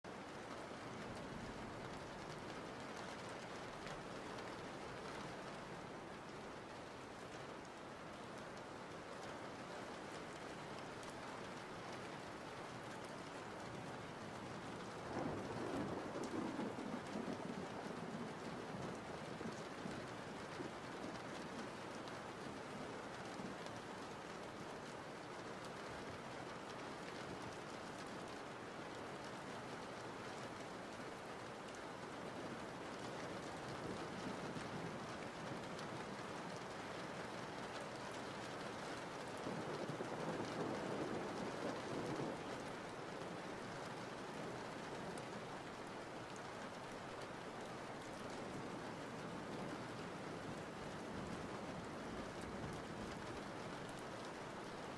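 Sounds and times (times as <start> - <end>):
steady hiss like rain: 0.1 - 54.9.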